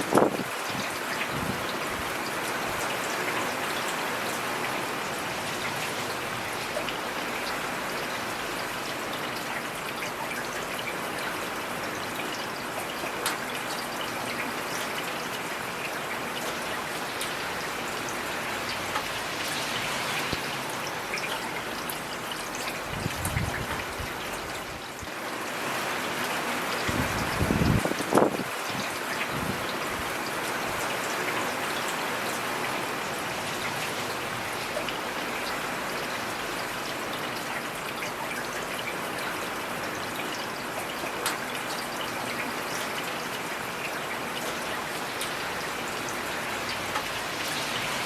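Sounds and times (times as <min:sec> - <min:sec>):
heavy rain on hard surfaces: 0:00.0 - 0:48.0.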